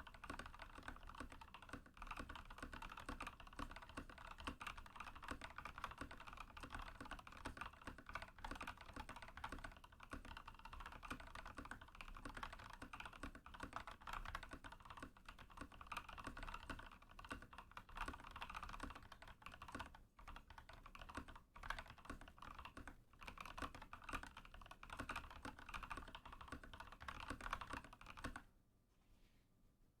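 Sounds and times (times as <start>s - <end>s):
mechanical keyboard typing: 0.0s - 28.5s.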